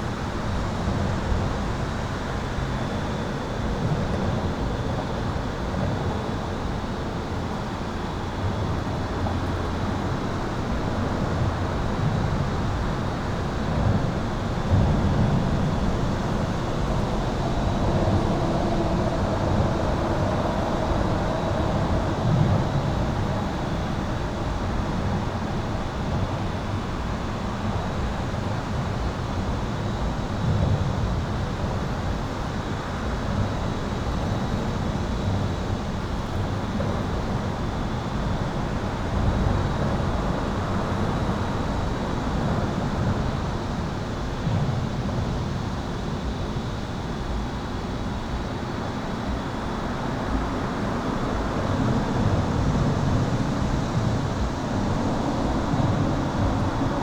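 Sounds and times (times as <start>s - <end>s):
highway traffic rumble: 8.1s - 46.4s, 48.3s - 57.0s.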